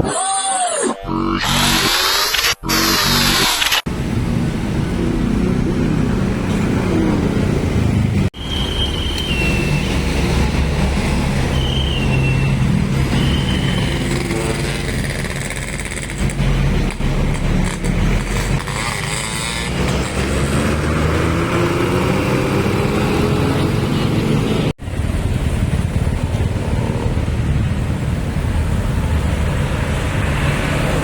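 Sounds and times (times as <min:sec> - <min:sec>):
vehicle engines passing by: 0:03.8 - 0:31.0.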